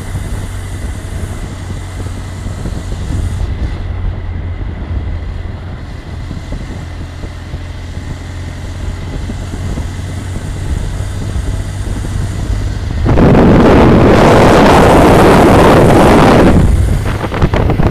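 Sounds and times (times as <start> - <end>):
motorcycle engine rumble: 0.0 - 17.9
road noise: 0.0 - 17.9
wind on microphone: 0.0 - 17.9.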